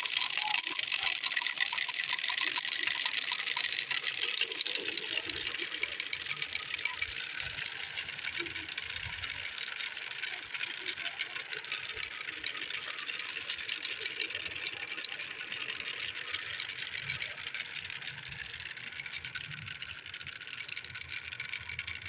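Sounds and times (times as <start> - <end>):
marbles rattling on wooden track: 0.0 - 22.0.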